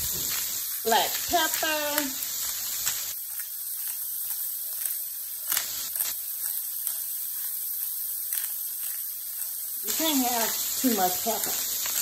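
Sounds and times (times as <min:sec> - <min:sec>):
cabbage sizzling in grease: 0:00.0 - 0:12.0.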